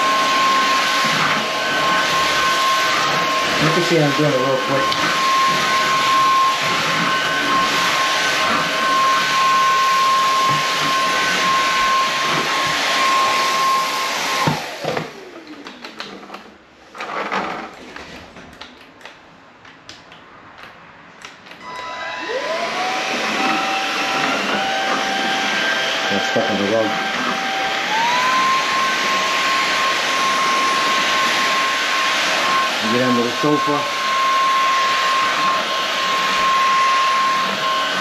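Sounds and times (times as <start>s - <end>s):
stick vacuum motor whine: 0.0s - 17.5s, 21.5s - 38.0s.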